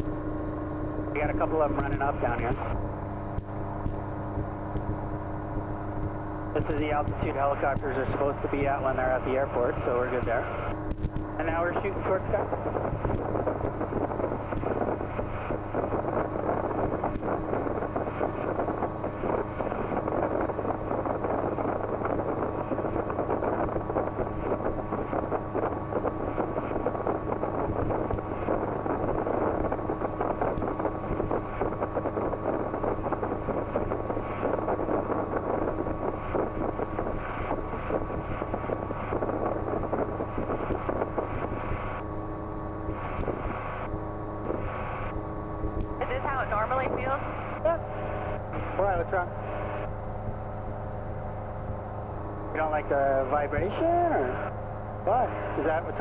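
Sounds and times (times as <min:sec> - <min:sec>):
helicopter engine and rotors: 0:00.0 - 0:56.0
wind noise: 0:00.0 - 0:56.0.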